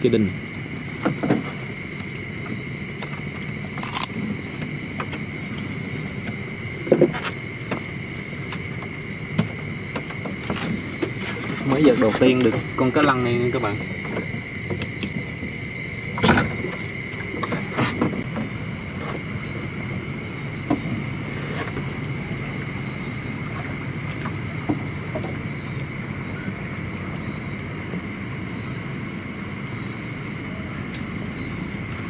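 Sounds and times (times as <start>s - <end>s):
night insects droning: 0.0s - 32.0s.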